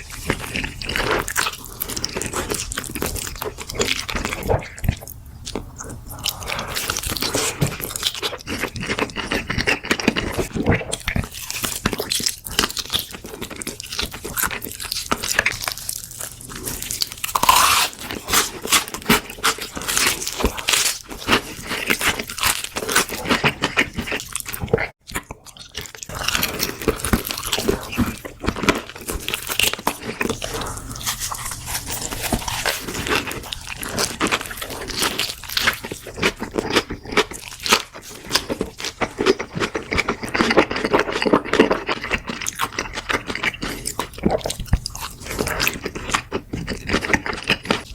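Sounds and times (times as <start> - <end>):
crunching and chewing fried chicken: 0.0 - 47.9.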